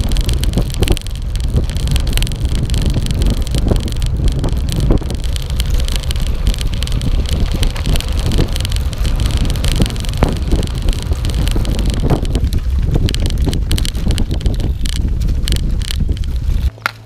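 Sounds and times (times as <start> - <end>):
wind buffeting microphone: 0.0 - 16.8
tyres crunching on gravel: 0.0 - 17.0.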